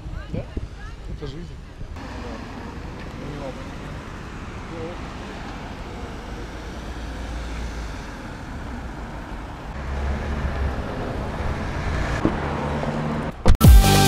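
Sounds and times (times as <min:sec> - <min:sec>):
cars passing on road: 0:00.0 - 0:13.6.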